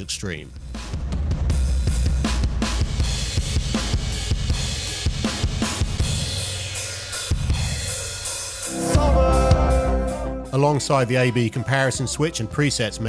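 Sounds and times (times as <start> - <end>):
distorted drum kit beat: 0.0 - 11.3.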